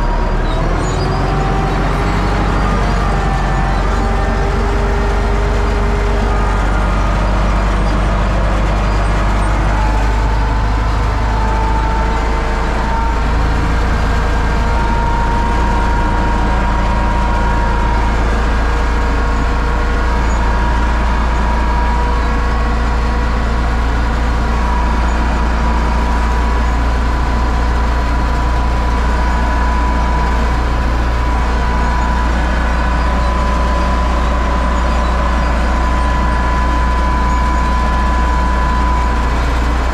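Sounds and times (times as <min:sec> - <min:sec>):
high whine: 0:00.0 - 0:39.9
tractor diesel engine running: 0:00.0 - 0:39.9.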